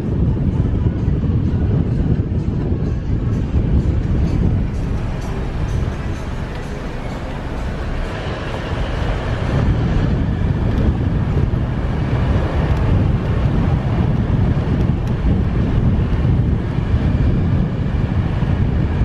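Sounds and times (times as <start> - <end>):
car road noise rumble: 0.0 - 19.0
wind buffeting microphone: 0.0 - 19.0.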